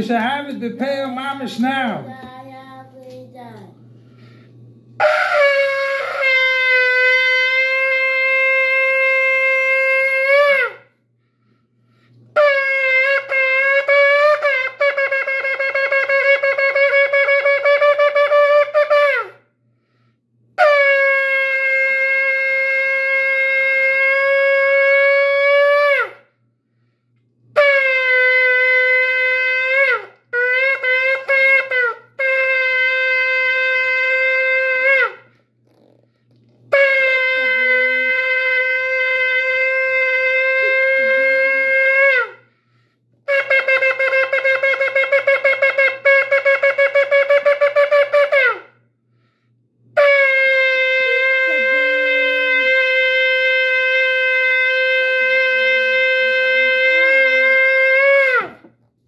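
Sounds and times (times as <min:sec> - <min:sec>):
shofar blasts: 0:05.0 - 0:11.0, 0:12.3 - 0:20.0, 0:20.6 - 0:26.4, 0:27.5 - 0:35.4, 0:36.7 - 0:48.9, 0:49.9 - 0:58.8.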